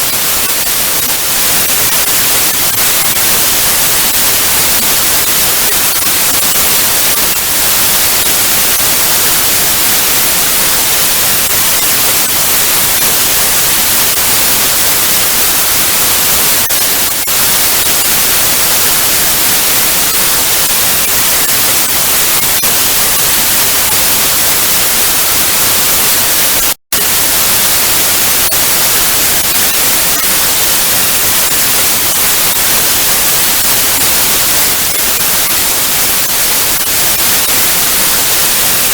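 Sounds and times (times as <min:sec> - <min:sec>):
television static hiss: 0:00.0 - 0:38.9.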